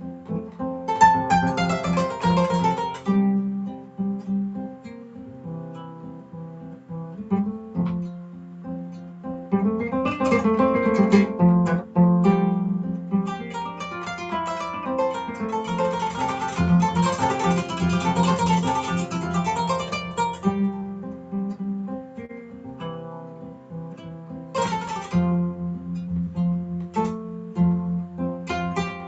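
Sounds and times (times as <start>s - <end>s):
harp-lute plucked notes: 0.0s - 29.0s.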